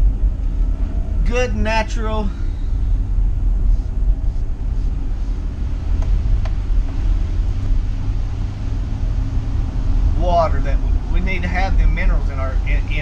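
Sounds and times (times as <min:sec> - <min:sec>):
engine and road noise in van: 0:00.0 - 0:13.0.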